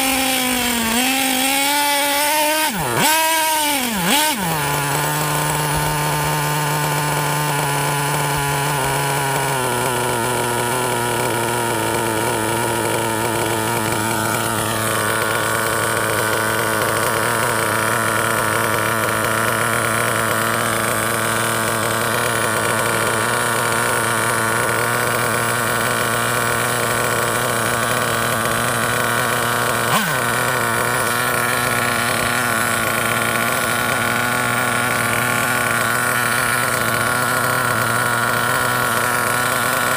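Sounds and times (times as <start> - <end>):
model truck engine idling: 0.0 - 39.9.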